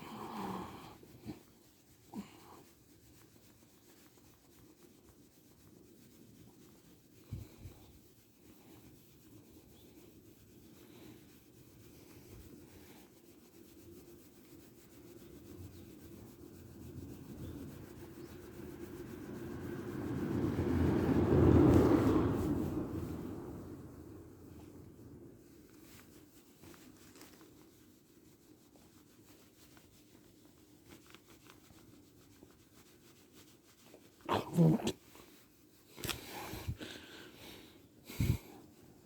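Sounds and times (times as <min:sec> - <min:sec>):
hand rubbing dog fur: 0:00.0 - 0:39.0.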